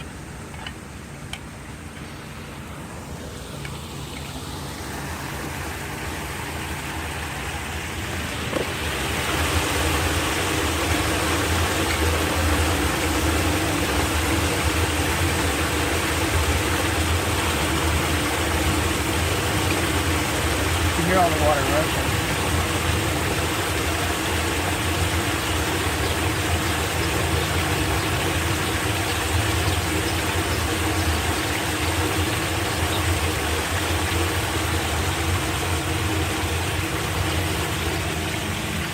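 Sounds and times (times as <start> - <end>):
water rushing into storm drain: 0.0 - 38.9.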